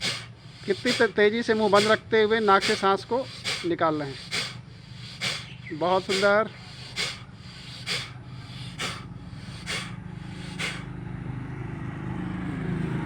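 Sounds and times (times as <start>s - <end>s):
sharp nasal exhalations: 0.0s - 10.9s.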